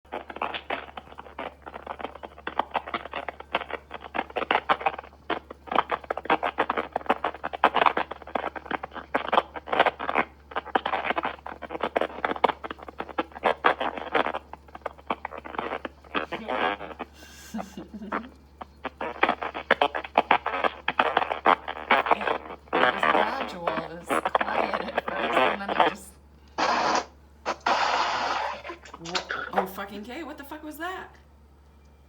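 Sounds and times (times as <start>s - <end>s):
scratchy crackling clicks: 0.1s - 30.5s
steady low hum: 0.1s - 32.0s.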